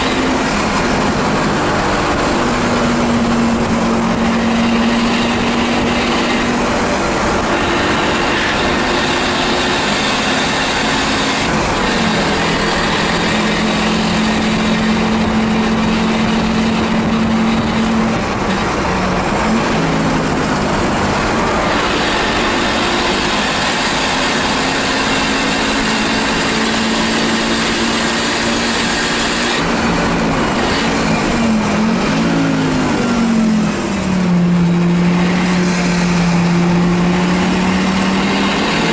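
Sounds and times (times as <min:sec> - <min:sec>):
loud rushing noise: 0:00.0 - 0:38.9
race car engine running hard: 0:00.0 - 0:38.9.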